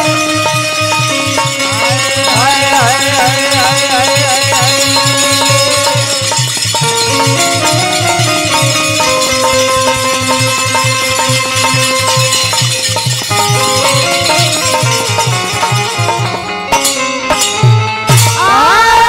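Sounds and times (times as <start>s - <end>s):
repeating melody: 0.0s - 18.4s
hand cymbals jingling: 0.0s - 18.5s
wavering bending melody line: 0.0s - 18.8s
dholak drumming: 0.0s - 19.0s.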